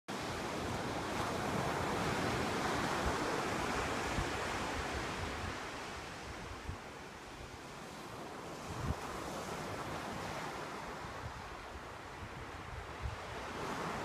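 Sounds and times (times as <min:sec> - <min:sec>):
ocean surf breaking: 0:00.1 - 0:14.0
wind gusting on microphone: 0:00.2 - 0:14.0.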